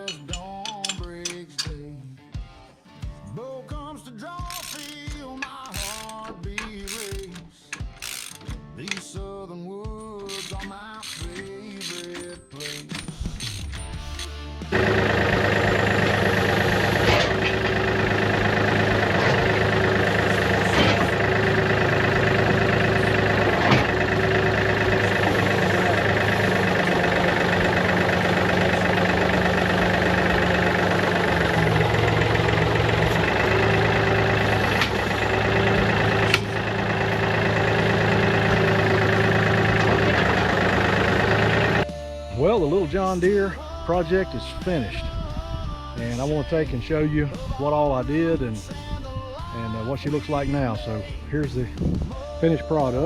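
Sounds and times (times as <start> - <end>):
tractor diesel engine running: 0.0 - 1.7, 4.4 - 9.1, 10.0 - 53.0.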